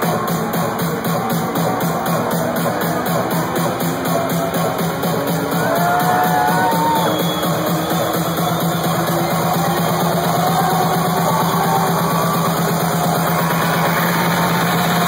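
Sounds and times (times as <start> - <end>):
house music over sound system: 0.0 - 15.0.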